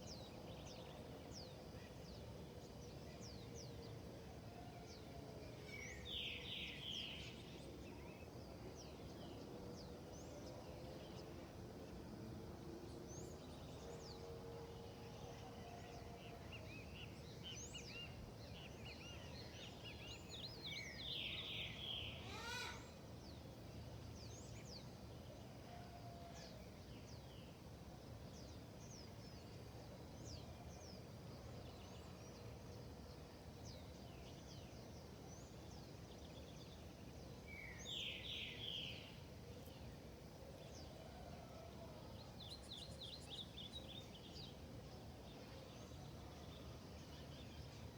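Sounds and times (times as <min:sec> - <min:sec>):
low outdoor background hiss: 0:00.0 - 0:47.9.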